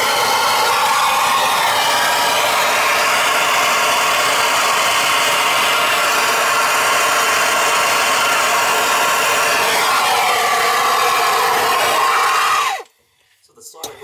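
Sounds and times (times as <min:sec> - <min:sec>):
gas torch flame hissing: 0:00.0 - 0:12.8.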